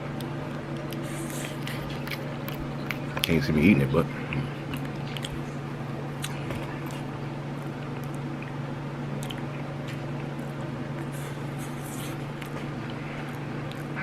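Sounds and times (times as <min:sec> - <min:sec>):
steady low hum: 0:00.0 - 0:14.0
person chewing: 0:00.1 - 0:03.4, 0:04.2 - 0:14.0.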